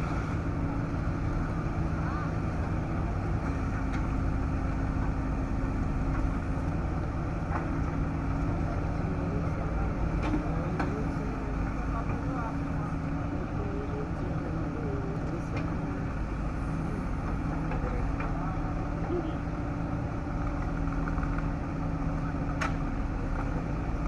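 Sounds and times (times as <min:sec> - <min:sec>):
diesel engine running steadily: 0:00.0 - 0:24.0.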